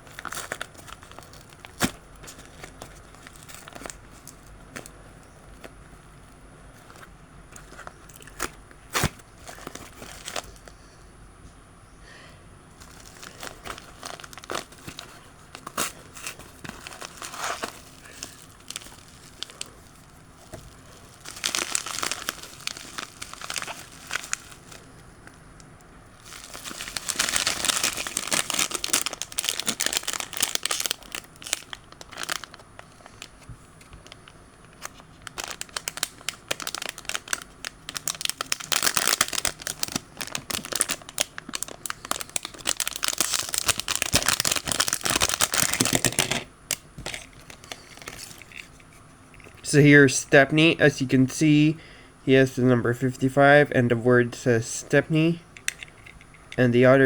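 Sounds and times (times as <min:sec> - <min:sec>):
packaging crinkling and tearing: 0:00.0 - 0:05.7, 0:06.7 - 0:10.7, 0:12.8 - 0:25.4, 0:26.2 - 0:49.7.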